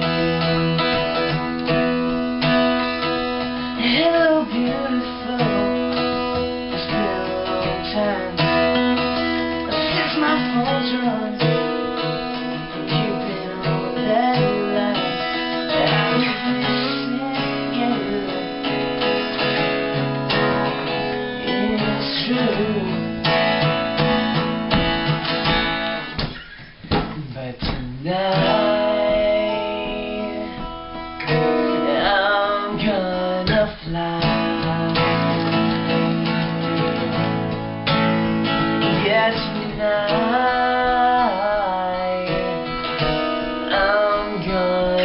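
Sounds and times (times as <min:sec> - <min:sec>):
man singing: 0:00.0 - 0:24.1, 0:26.9 - 0:45.0
acoustic guitar strumming: 0:00.0 - 0:45.0.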